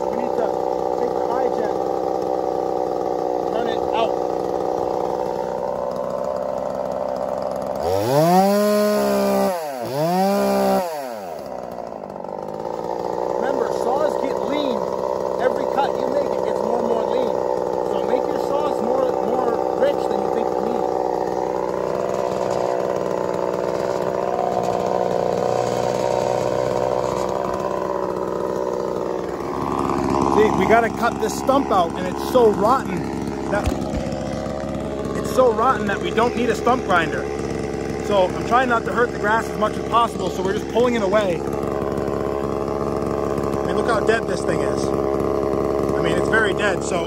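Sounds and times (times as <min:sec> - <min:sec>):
chainsaw idling and revving: 0:00.0 - 0:47.0.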